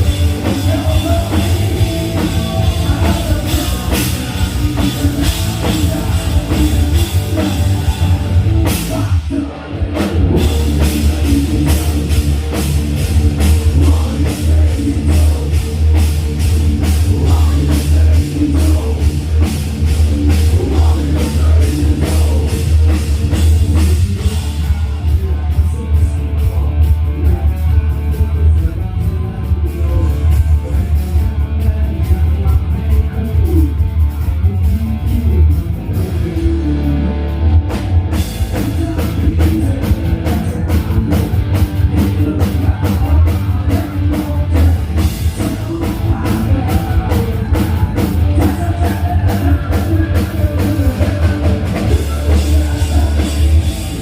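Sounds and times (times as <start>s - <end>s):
booming bass: 0.0s - 54.0s
rock band playing loud: 0.0s - 54.0s.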